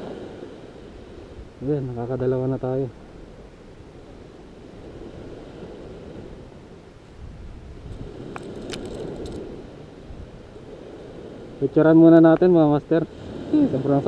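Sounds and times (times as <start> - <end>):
surf: 0.0 - 14.0
wind: 0.0 - 14.0.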